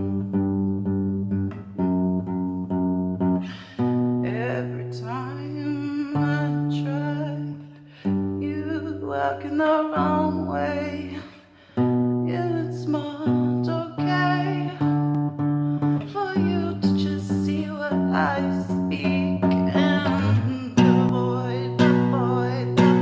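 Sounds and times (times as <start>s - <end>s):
person singing: 0.0s - 0.8s, 3.4s - 23.0s.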